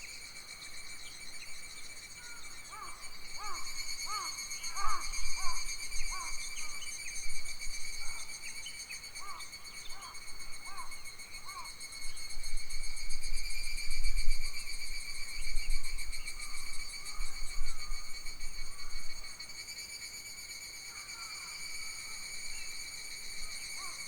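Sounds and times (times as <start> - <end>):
insects droning: 0.0 - 12.2, 14.4 - 24.0.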